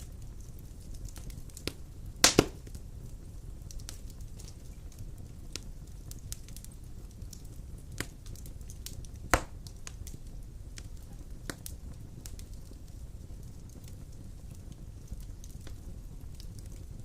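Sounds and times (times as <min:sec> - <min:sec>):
fire crackles and pops: 0:00.0 - 0:17.0
fire rumbling in fireplace: 0:00.0 - 0:17.0.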